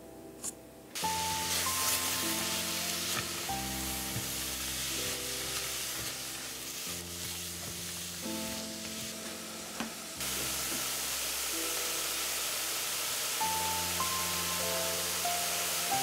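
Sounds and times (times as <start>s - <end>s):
vegetables sizzling in hot oil: 1.0s - 16.0s.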